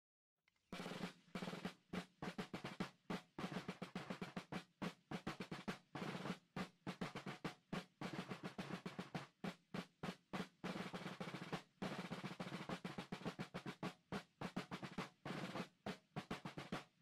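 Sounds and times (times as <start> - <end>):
snare drum rolls: 0.7 - 17.0.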